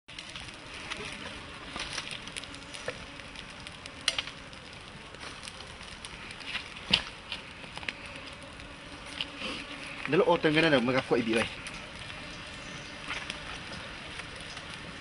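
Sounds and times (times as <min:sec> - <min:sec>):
meat sizzling in flames: 0:00.1 - 0:15.0
wood fire crackling: 0:00.1 - 0:15.0.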